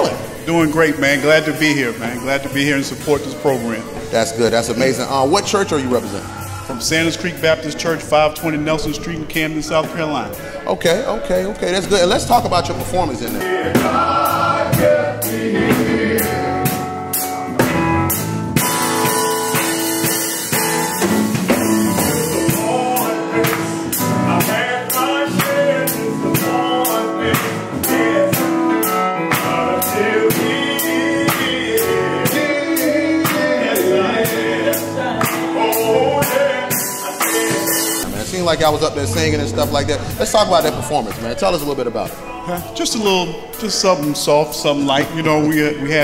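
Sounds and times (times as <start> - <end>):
male gospel group singing: 0.0 - 17.6, 18.6 - 46.0
steady drum beat: 0.0 - 28.7, 29.3 - 46.0
band playing: 0.0 - 46.0.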